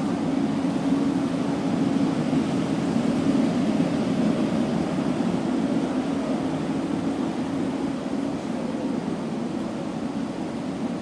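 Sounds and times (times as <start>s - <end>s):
subway platform low rumble: 0.0s - 11.0s.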